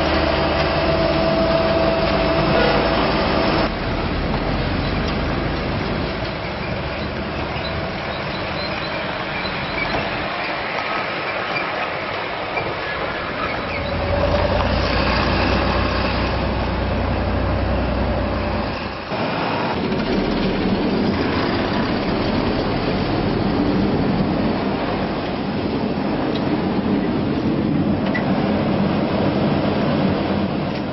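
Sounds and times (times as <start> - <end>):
road-works machinery diesel engines: 0.0 - 30.9.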